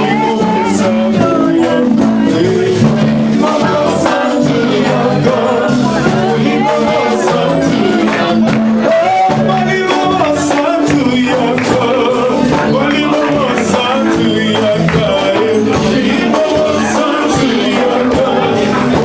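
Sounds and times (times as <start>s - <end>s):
bass and keyboard: 0.0s - 19.0s
voices singing: 0.0s - 19.0s.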